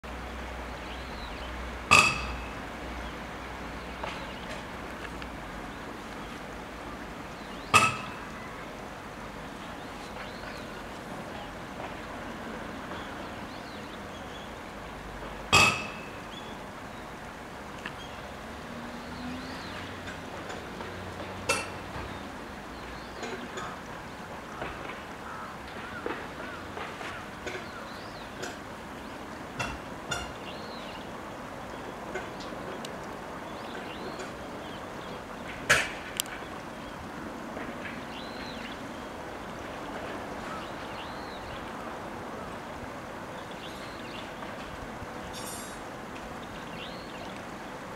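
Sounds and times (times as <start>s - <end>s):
outdoor background hiss: 0.0s - 47.9s
stream water flowing: 0.0s - 47.9s.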